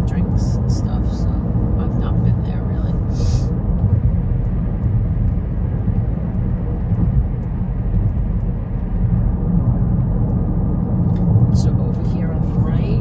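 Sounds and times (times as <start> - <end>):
car cabin road and engine rumble: 0.0 - 13.0
tyres on highway: 0.0 - 13.0.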